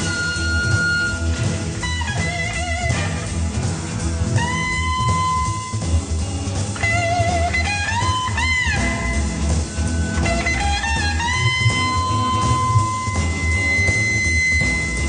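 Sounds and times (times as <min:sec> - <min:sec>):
bass and drum rhythm: 0:00.0 - 0:15.0
electric guitar bending notes: 0:00.0 - 0:15.0.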